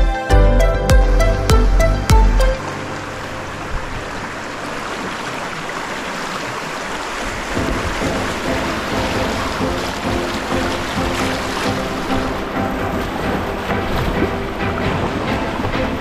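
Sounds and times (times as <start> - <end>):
background music: 0.0 - 4.9, 7.5 - 16.0
rushing water: 1.0 - 16.0.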